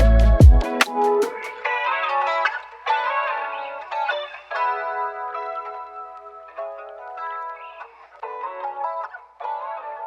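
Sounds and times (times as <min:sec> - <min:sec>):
calm plucked string music: 0:00.0 - 0:10.0.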